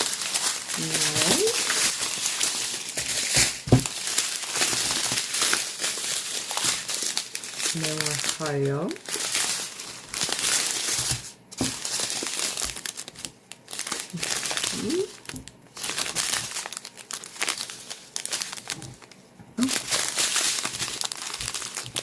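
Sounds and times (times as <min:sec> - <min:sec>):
small plastic bags crinkling: 0:00.0 - 0:22.0.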